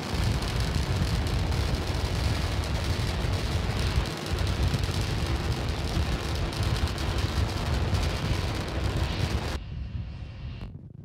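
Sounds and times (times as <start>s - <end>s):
rocket engines rumbling and crackling: 0.0s - 11.0s.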